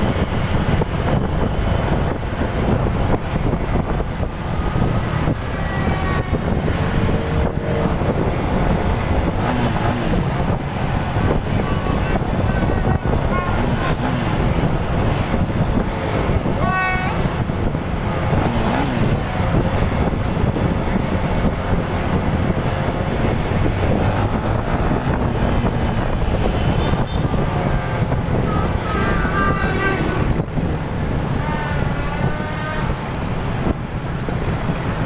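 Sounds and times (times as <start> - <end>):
motorbike engines and traffic: 0.0 - 35.0
wind buffeting microphone: 0.0 - 35.0.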